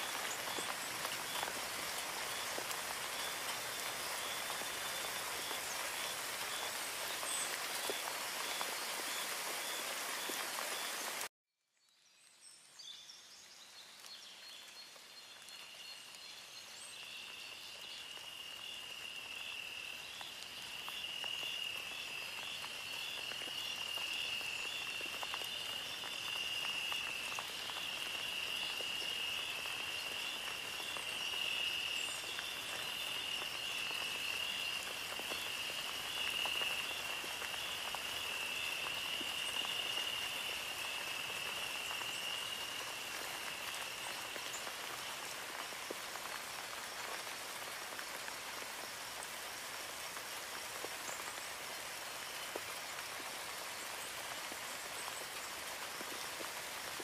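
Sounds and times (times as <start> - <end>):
steady rain: 0.0 - 11.3, 12.1 - 57.0.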